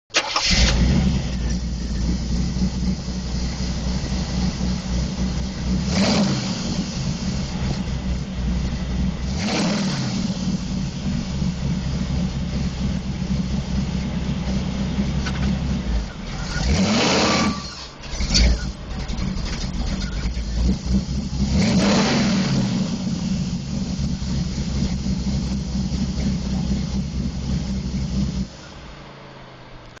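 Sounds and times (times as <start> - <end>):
car engine idling: 0.1 - 30.0
engine throttle revs: 0.1 - 30.0.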